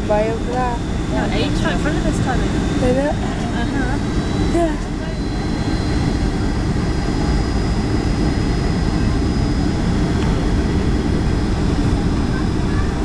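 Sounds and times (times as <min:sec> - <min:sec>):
jet engine roar in cabin: 0:00.0 - 0:13.0
thin high whine: 0:00.0 - 0:13.0.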